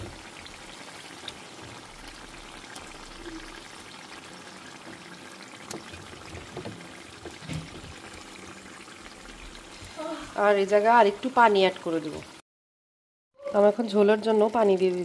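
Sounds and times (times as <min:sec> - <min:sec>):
curry simmering with wet hiss: 0:00.0 - 0:12.4, 0:13.6 - 0:15.0.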